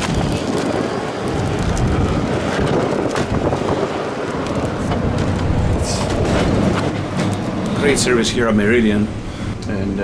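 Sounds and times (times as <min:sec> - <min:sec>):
car noise: 0:00.0 - 0:10.0
wind buffeting microphone: 0:00.0 - 0:10.0.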